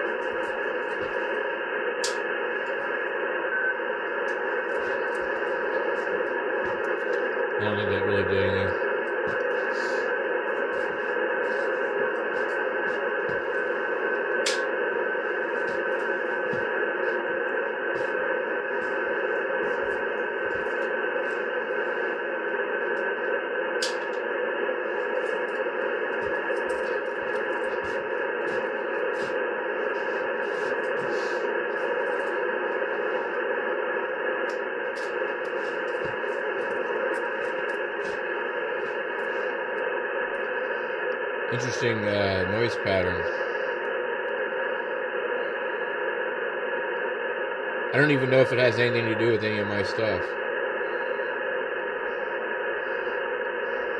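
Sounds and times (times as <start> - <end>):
radio interference hiss: 0.0 - 53.9.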